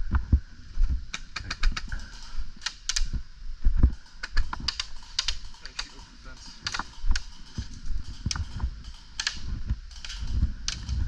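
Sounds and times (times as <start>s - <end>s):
low thumps: 0.0s - 11.0s
sharp clicks and snaps: 1.1s - 3.2s, 3.8s - 11.0s.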